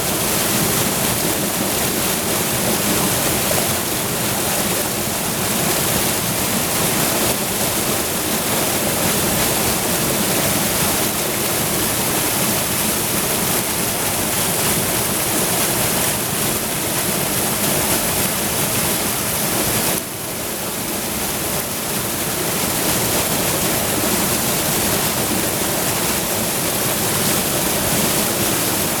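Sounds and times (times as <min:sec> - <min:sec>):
water rushing over waterfall: 0:00.0 - 0:29.0.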